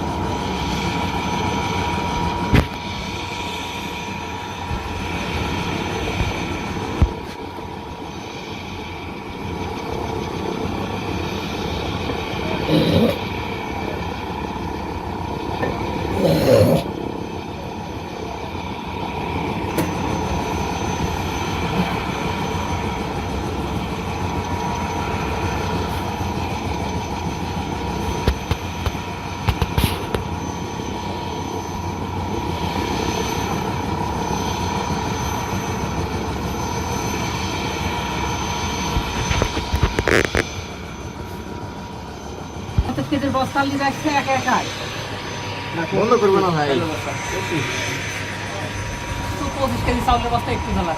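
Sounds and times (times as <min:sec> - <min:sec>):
helicopter engine and rotor: 0:00.0 - 0:50.9.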